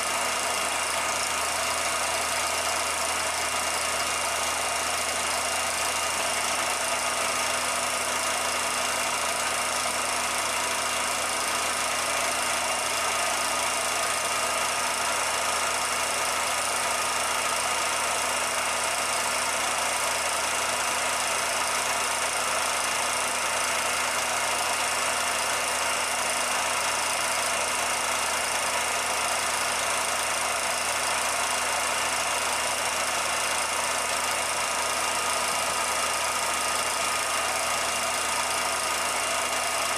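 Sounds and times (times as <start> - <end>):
mechanical running noise: 0.0 - 39.9.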